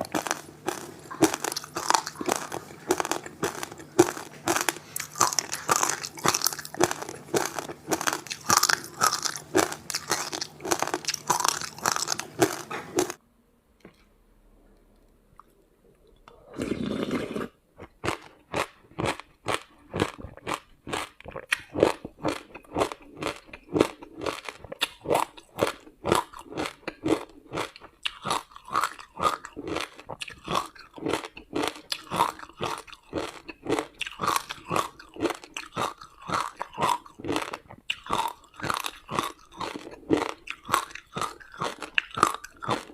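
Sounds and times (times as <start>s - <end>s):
ice being crunched and chewed: 0.0s - 13.2s, 17.8s - 42.9s.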